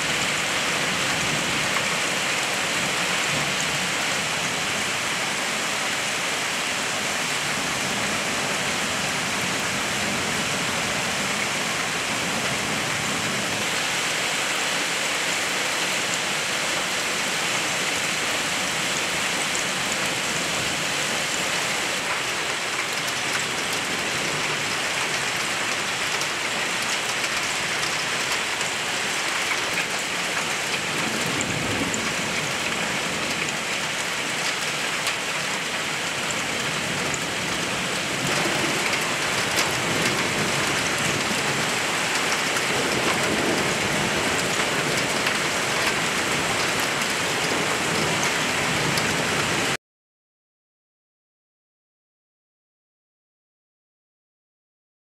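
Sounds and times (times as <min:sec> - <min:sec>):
heavy rain pouring: 0:00.0 - 0:49.8.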